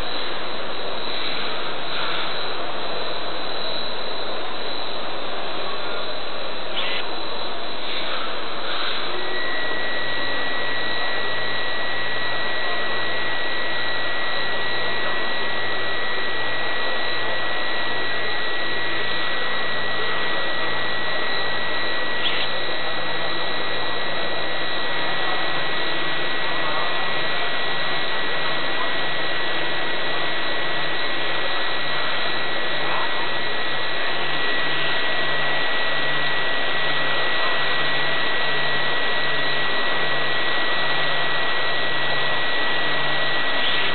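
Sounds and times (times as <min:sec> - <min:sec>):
propeller motors whirring: 0:00.0 - 0:43.9
thin steady whine: 0:00.0 - 0:43.9.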